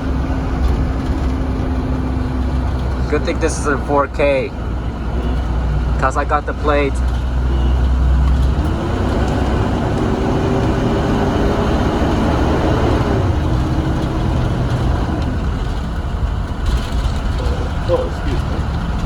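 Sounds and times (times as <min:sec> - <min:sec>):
bus engine rumble: 0:00.0 - 0:19.0
road noise: 0:00.0 - 0:19.0.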